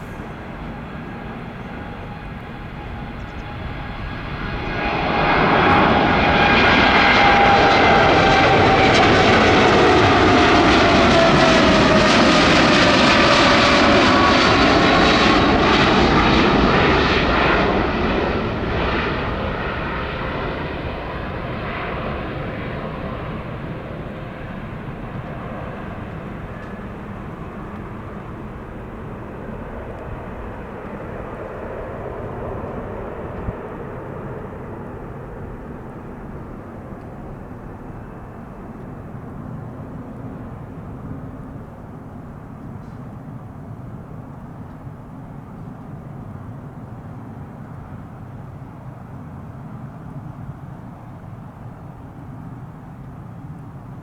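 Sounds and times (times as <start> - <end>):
jet engines passing close: 0.0 - 54.0.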